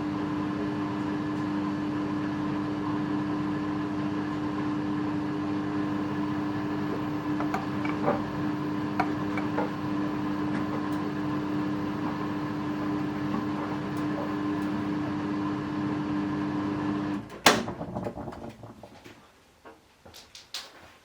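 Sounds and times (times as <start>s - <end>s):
washing machine humming: 0.0s - 19.6s.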